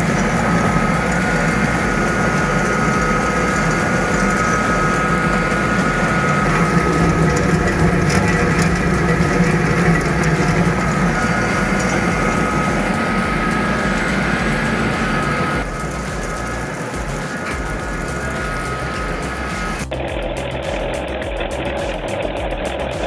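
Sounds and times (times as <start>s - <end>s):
wood-processing machine droning: 0.0s - 20.0s.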